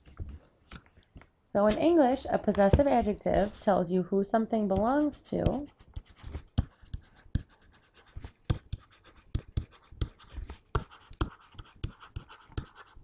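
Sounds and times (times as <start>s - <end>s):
stylus tapping and scratching: 0.0s - 3.8s, 4.4s - 13.0s.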